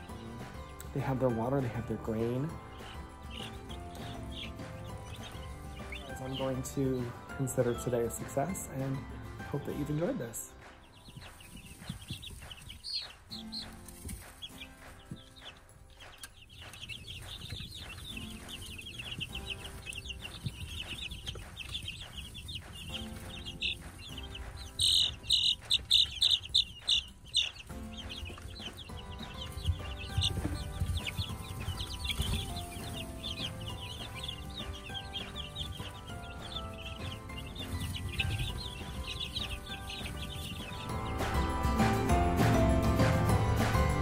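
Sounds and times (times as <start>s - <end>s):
flock of chicks peeping: 0.0s - 44.0s.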